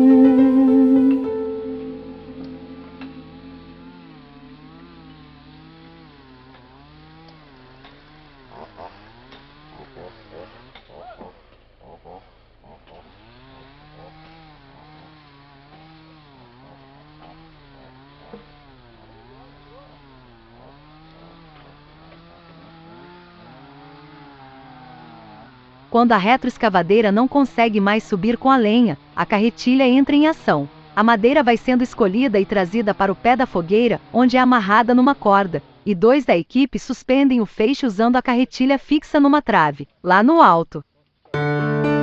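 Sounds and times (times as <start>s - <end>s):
chainsaw cutting logs: 1.4s - 36.2s.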